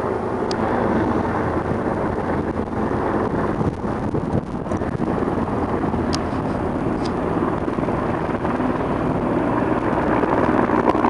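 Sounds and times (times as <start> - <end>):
airplane engines droning: 0.0 - 11.0
wind on microphone: 0.0 - 11.0.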